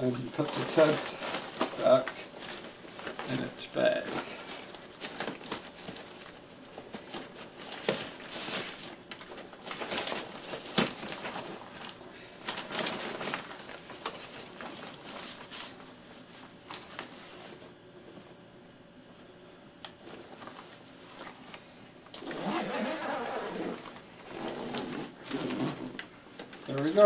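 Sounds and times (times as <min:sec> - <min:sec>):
nylon fabric rustling and crinkling: 0:00.0 - 0:17.7, 0:22.2 - 0:27.0.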